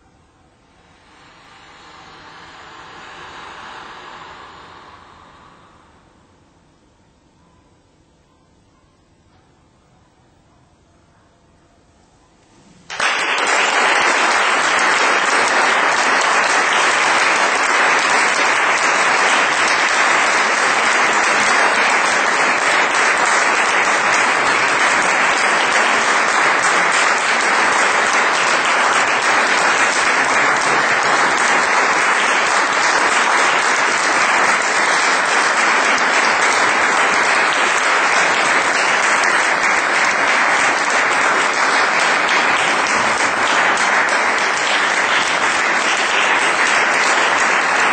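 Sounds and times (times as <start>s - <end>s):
audience applauding: 0.9s - 6.0s, 12.8s - 47.9s.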